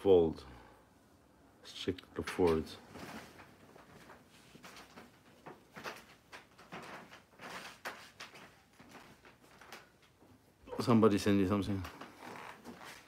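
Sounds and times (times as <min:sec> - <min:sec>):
soft rustling: 0:02.4 - 0:13.0.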